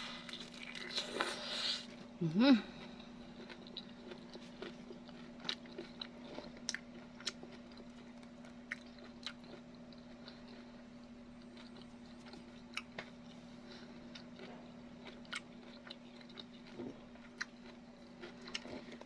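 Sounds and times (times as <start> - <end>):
faint steady hum: 0.0 - 19.0
person chewing crunchy food: 0.0 - 19.0.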